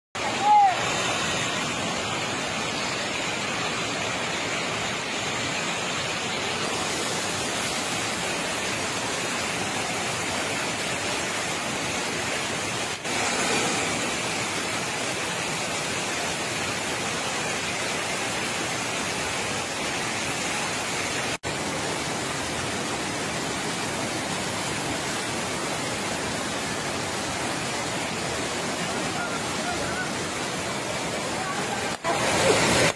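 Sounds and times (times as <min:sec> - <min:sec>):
water rushing: 0:00.2 - 0:32.9.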